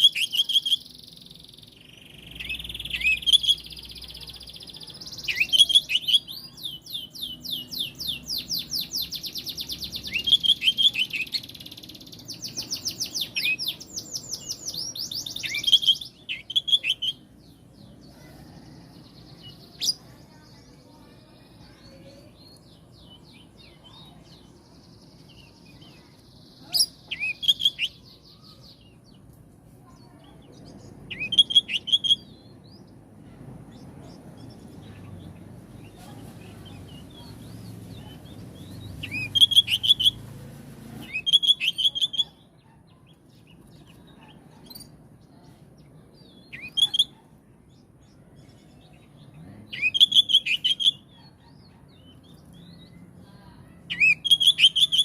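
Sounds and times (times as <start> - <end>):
bird singing rapid repeated notes: 0.0 - 18.2, 19.0 - 29.3, 30.4 - 40.4, 41.0 - 53.2, 53.8 - 55.0.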